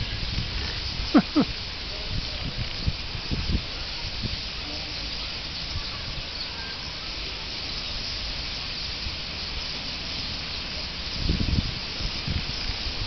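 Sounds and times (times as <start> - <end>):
starlings chattering en masse: 0.0 - 13.0.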